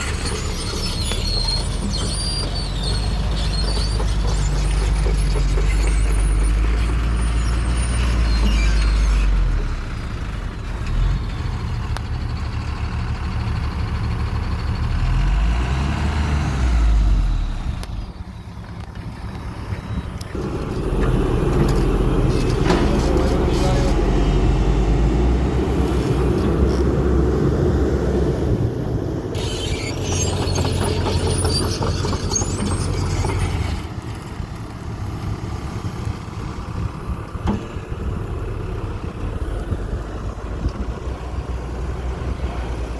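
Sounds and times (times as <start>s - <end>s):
excavator diesel engine working: 0.0s - 42.9s.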